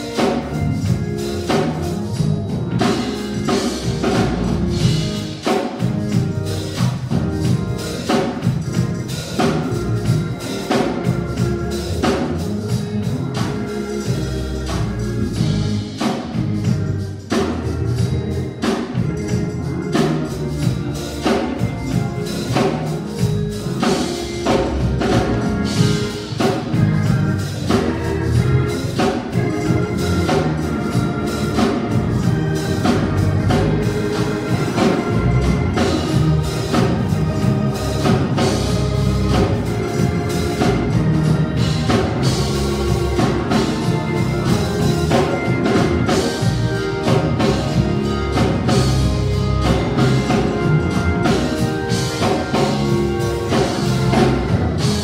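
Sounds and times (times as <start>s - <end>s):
drums: 0.0s - 55.0s
organ: 0.0s - 55.0s.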